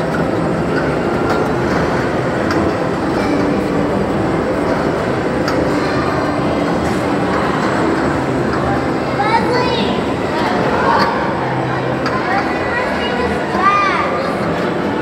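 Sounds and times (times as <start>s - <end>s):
carousel rumbling: 0.0s - 15.0s.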